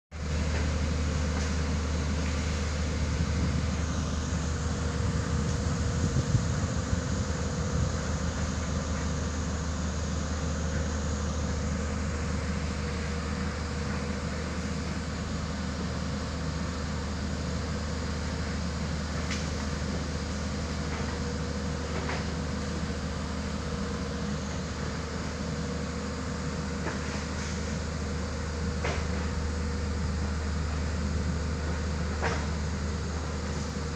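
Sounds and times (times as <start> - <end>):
roller compactor low hum: 0.1 - 33.9.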